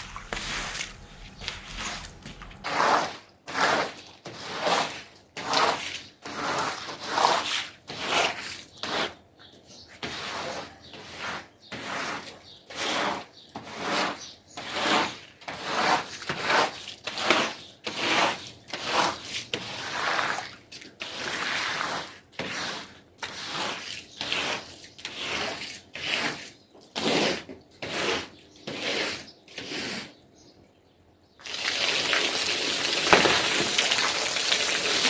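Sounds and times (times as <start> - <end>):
brush scrubbing carpet: 0.0 - 9.2, 10.0 - 30.1.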